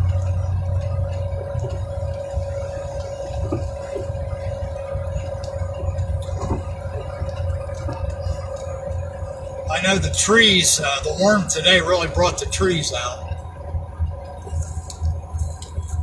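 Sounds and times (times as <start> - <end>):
car cabin road rumble: 0.0 - 16.0
thin constant whine: 0.0 - 16.0.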